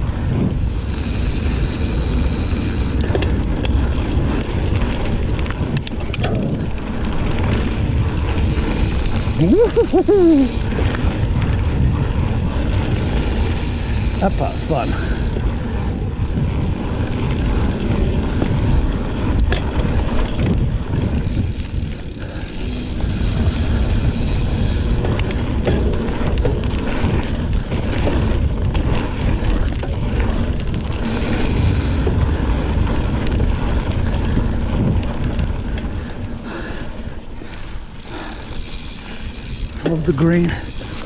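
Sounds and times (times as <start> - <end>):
bike rattles and clicks: 0.0 - 41.0
bike tyre noise on dirt: 0.0 - 41.0
wind on microphone: 0.0 - 41.0.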